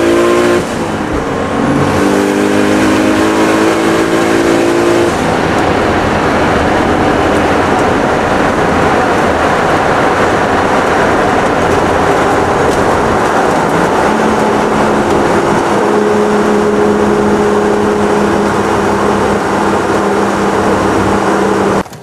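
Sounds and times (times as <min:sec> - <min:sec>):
car engine running: 0:00.0 - 0:22.0
road and wind noise: 0:00.0 - 0:22.0.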